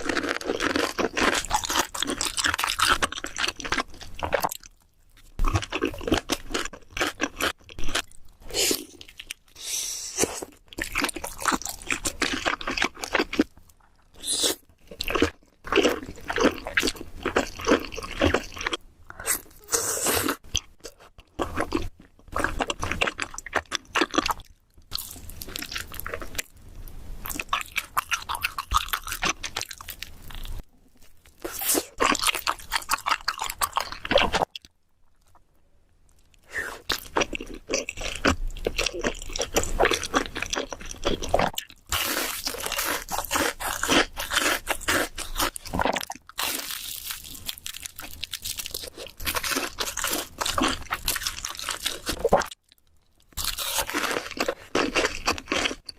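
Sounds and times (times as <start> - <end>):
chewing and crunching food: 0.0 - 55.9.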